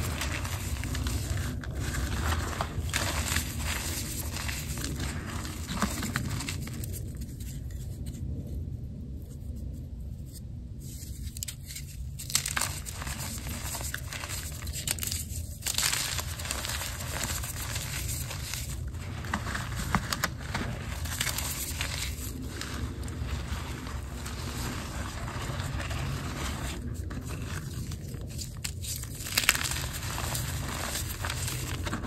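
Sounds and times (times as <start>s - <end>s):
chalk powder squishing: 0.0s - 8.0s, 10.9s - 32.0s
chalk crunching and crackling: 0.0s - 8.4s, 10.8s - 32.0s.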